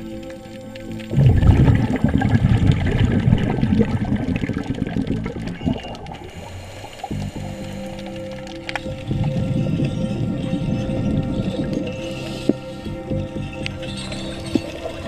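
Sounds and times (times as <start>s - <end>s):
music: 0.0s - 15.0s
underwater scuba exhaust bubbles: 0.0s - 15.0s.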